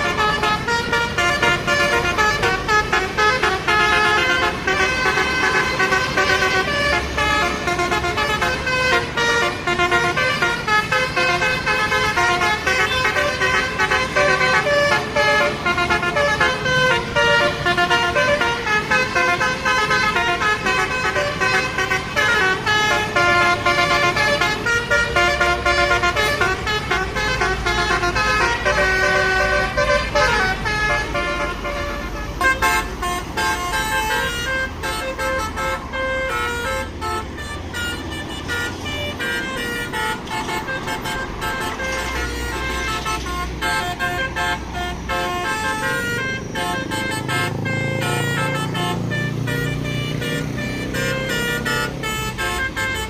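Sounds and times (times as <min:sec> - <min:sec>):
multi-tone bus horn tune: 0:00.0 - 0:53.0
traffic noise: 0:00.0 - 0:53.0.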